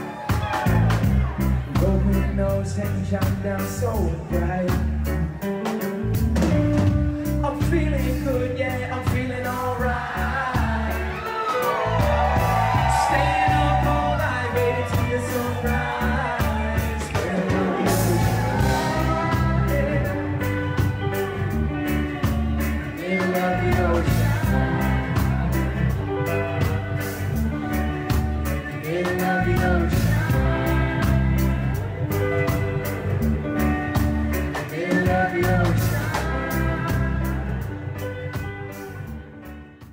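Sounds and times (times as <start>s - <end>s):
person singing: 0.0s - 5.8s, 7.2s - 39.2s
steady drum beat: 0.0s - 39.1s
guitar: 0.0s - 39.9s.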